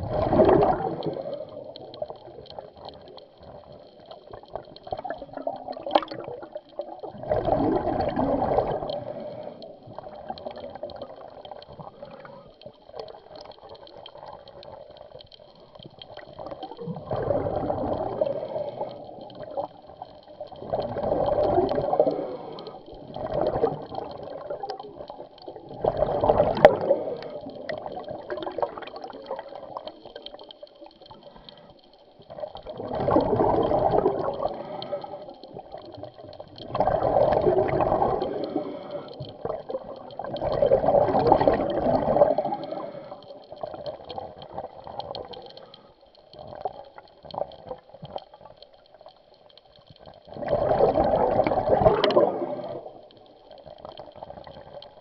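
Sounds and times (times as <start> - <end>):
underwater bubbles rushing and gurgling: 0.0 - 55.0.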